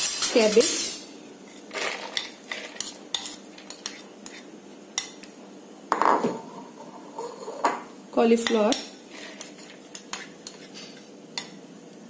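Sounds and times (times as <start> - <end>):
spatula scraping and tapping bowl: 1.5 - 11.6.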